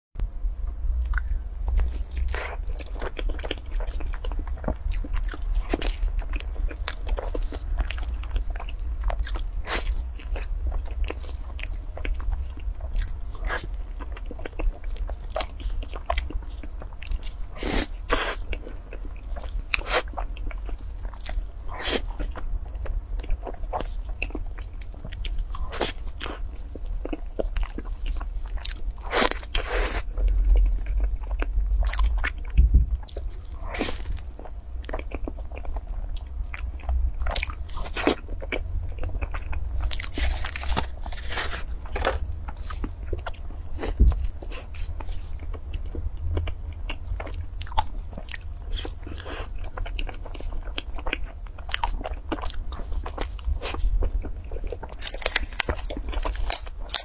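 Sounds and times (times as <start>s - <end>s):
steady low hum: 0.2s - 57.0s
chewing and mouth smacks: 1.0s - 57.0s.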